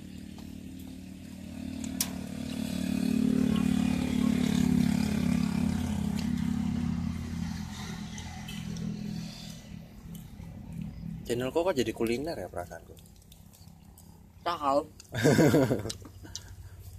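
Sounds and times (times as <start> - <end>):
vehicle engine hum passing by: 0.0 - 14.4.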